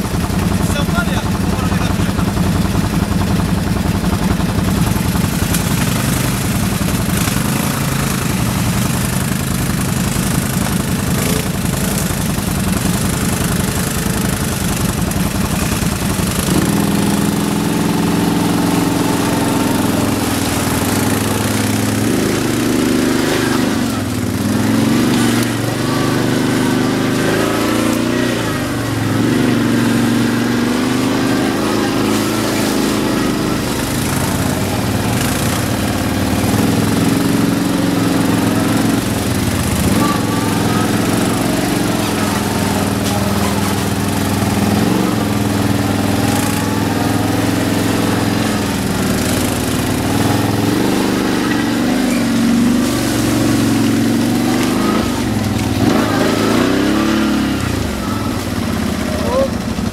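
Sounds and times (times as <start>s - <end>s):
quad bike engine: 0.0s - 59.9s.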